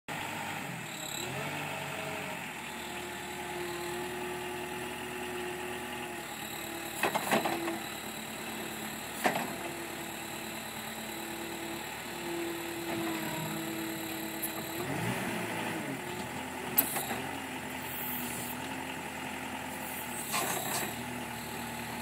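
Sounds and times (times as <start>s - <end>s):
forklift engine running: 0.1s - 22.0s.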